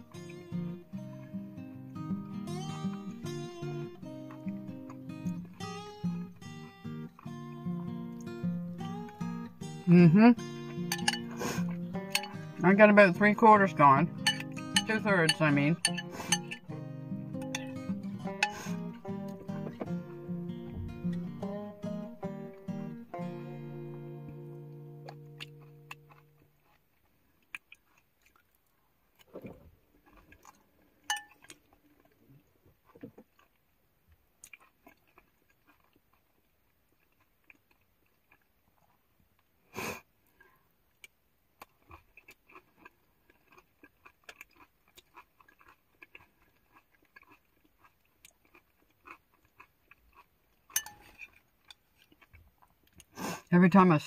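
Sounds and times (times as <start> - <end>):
quiet chewing: 4.1 - 9.5, 10.4 - 12.6, 14.1 - 21.5, 24.2 - 53.5.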